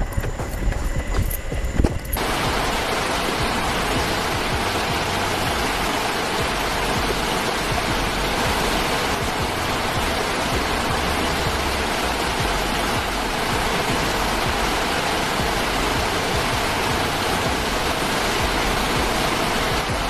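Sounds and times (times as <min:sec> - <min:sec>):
background music with bass: 0:00.0 - 0:20.0
steady rushing noise: 0:00.0 - 0:20.0.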